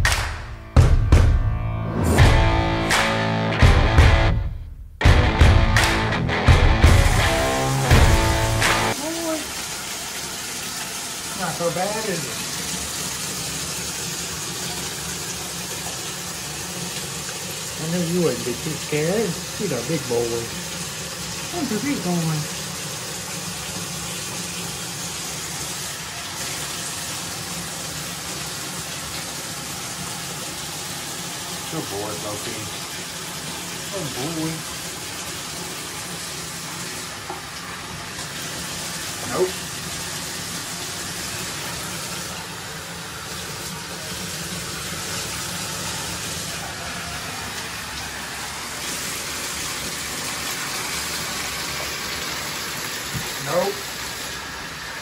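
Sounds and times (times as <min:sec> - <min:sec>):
water running into bathtub: 0:05.0 - 0:55.0
water splashing: 0:06.8 - 0:55.0.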